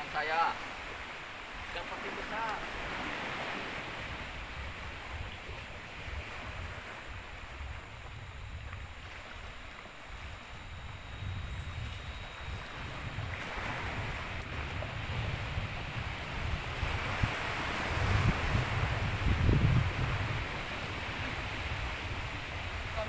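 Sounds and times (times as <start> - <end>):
sea water washing: 0.0 - 23.0
wind buffeting the microphone: 0.0 - 23.0.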